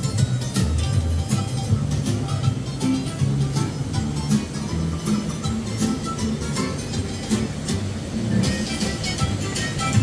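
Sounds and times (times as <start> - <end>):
guitar music from speaker: 0.0 - 10.0
hot tub jets rushing: 1.5 - 10.0.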